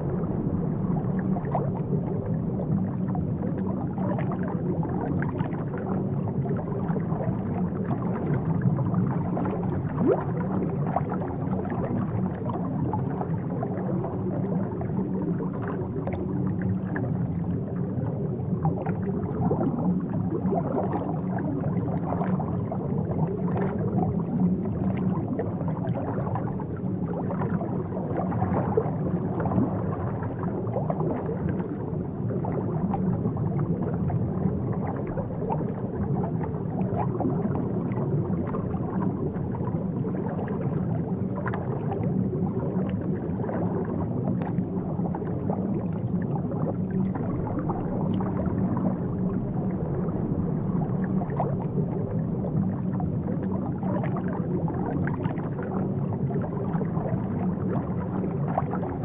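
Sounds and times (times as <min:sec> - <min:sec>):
underwater bubbling and gurgling: 0:00.0 - 0:59.0.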